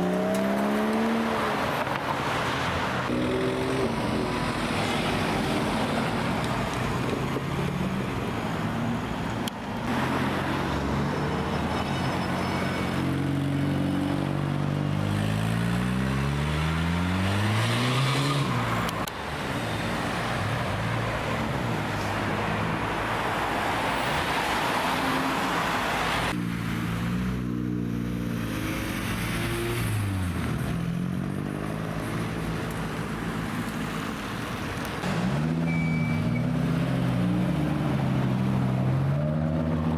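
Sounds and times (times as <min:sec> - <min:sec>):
car engines revving and accelerating: 0:00.0 - 0:39.9.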